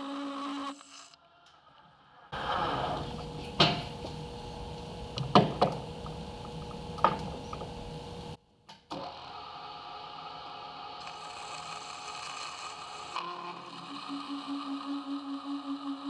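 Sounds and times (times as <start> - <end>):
machine hum: 2.3 - 8.4, 9.1 - 16.0
lathe running: 2.4 - 8.4, 9.0 - 16.0.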